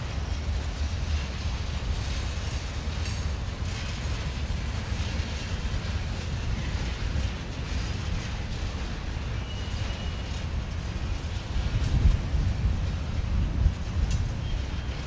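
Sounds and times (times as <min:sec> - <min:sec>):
freight cars rumbling on rails: 0:00.0 - 0:15.0.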